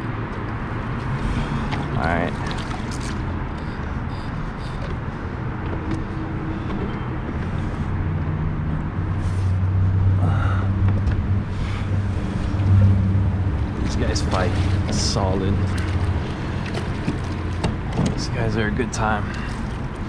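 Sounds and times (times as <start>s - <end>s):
light wind: 0.0s - 20.0s
low engine hum: 0.0s - 20.0s
water noise: 0.5s - 8.2s, 10.7s - 20.0s.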